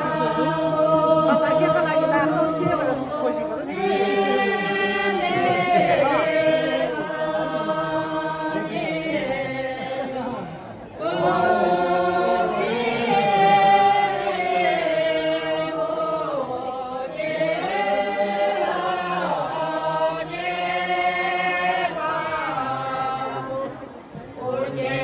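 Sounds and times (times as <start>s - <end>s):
group singing chant-like song: 0.0s - 25.0s.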